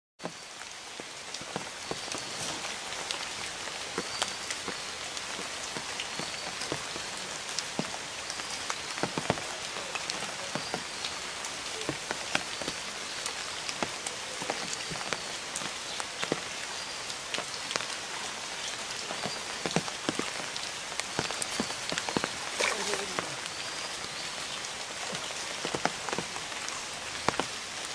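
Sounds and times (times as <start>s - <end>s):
rain falling on a pond: 0.2s - 27.9s.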